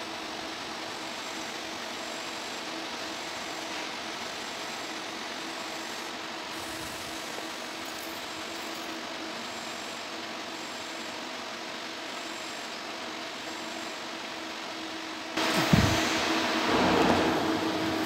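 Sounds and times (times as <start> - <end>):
welding arc hissing: 0.0 - 18.0.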